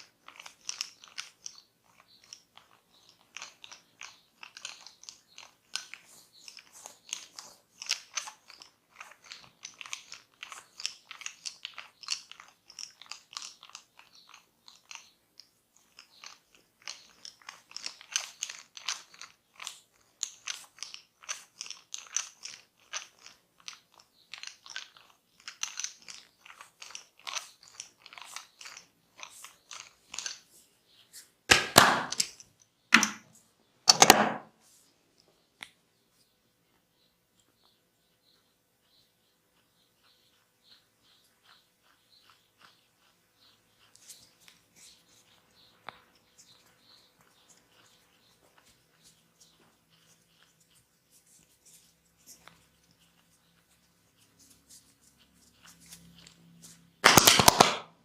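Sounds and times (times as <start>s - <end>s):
hands rubbing and scratching: 0.0s - 32.4s, 39.6s - 57.8s.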